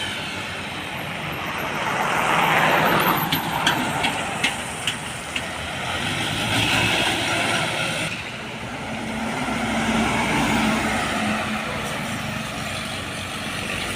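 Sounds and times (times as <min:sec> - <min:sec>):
trucks driving past: 0:00.0 - 0:13.9.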